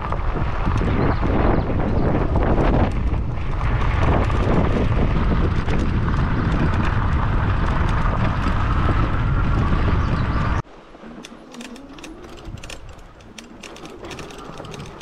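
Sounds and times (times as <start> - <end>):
tyres rumbling on sand: 0.0 - 15.0
wind buffeting microphone: 0.0 - 15.0.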